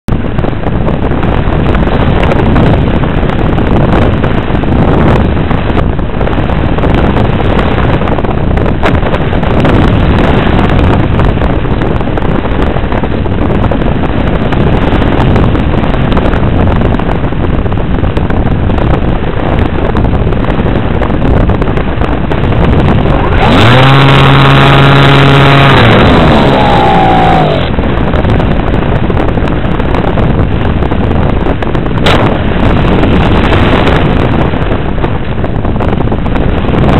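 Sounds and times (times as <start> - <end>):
motor and propeller hum: 0.0 - 36.9
wind noise on microphone: 0.0 - 36.9.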